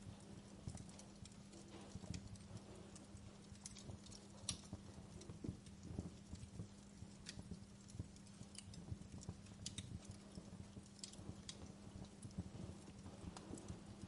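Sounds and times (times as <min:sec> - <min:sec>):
wood fire crackling softly: 0:00.0 - 0:14.0.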